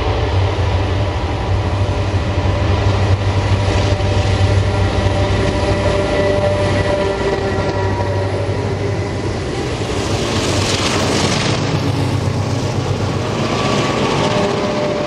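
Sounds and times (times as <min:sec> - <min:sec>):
high engine whine: 0:00.0 - 0:15.0
locomotive engines droning: 0:00.0 - 0:15.0.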